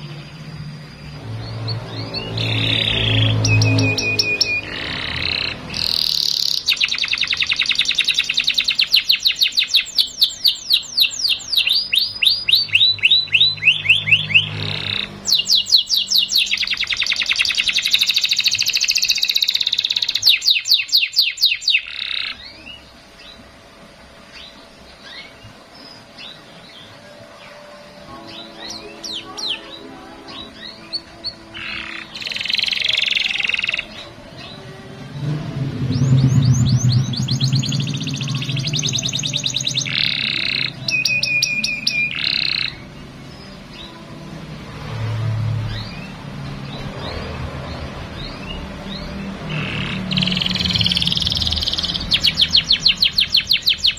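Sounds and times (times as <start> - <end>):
canary chirps: 0.0 - 53.9
canary singing trills: 0.0 - 53.9.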